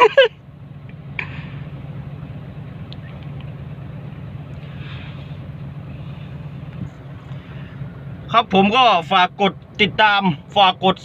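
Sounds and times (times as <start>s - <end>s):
heavy diesel engine running: 0.0s - 11.0s.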